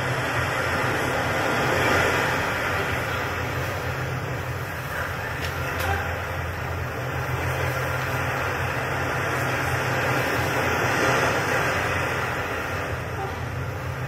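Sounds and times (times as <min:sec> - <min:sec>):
ambient low rumble with hiss: 0:00.0 - 0:14.0.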